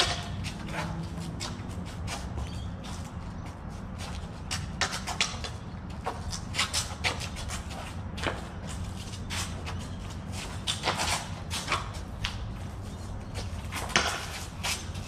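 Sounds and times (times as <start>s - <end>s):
scuffing footsteps and shuffling: 0.0s - 15.0s.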